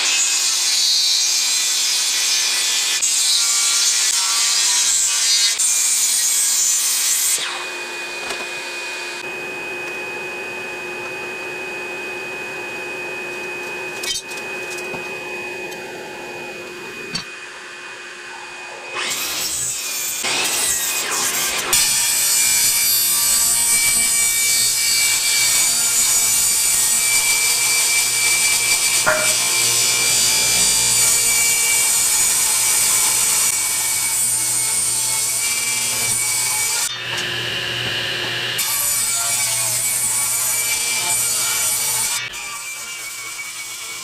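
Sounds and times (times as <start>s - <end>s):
power saw cutting lumber: 0.0s - 44.0s.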